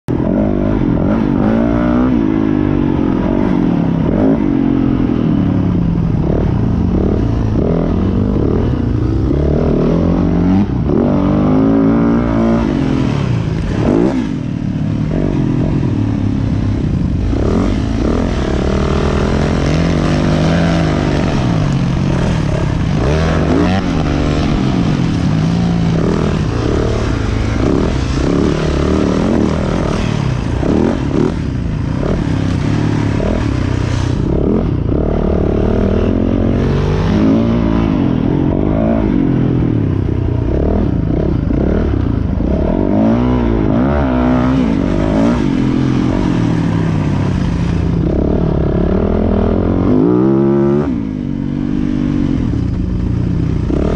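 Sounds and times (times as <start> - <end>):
motocross engine revving: 0.1 - 53.9.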